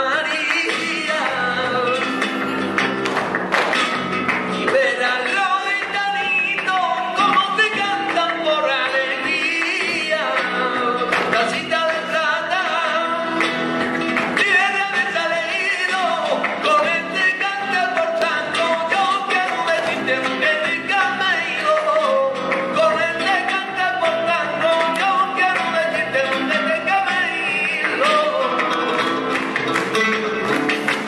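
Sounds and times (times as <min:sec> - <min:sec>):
flamenco accompaniment: 0:00.0 - 0:31.0.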